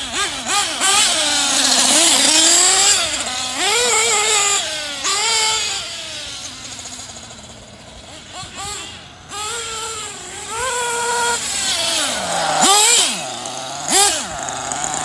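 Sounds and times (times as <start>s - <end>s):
model truck engine revving: 0.0s - 15.0s.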